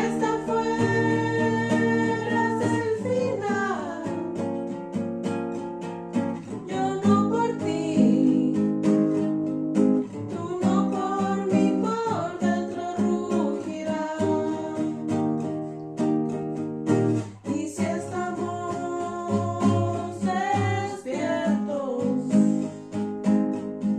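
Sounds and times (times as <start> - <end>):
acoustic guitar music: 0.0 - 23.9.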